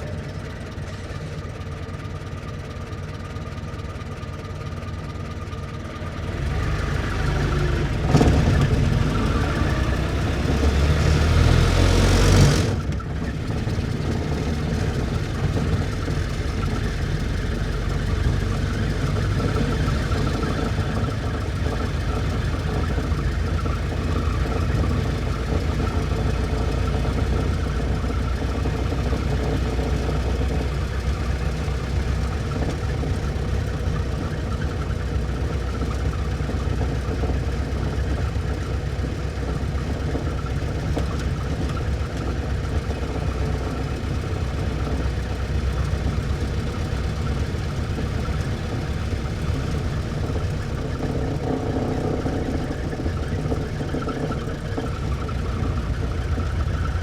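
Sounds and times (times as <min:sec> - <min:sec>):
car engine chugging: 0:00.0 - 0:57.0.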